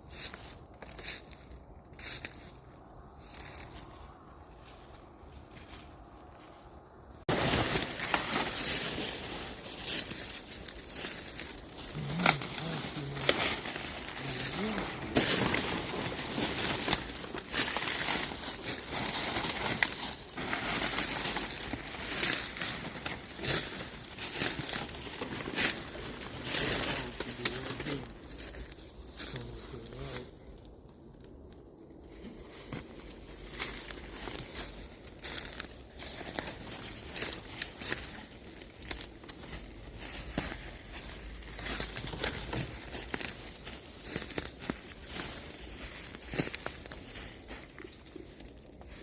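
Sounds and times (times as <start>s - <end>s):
footsteps crunching dry leaves: 0.0s - 30.6s, 32.0s - 49.0s.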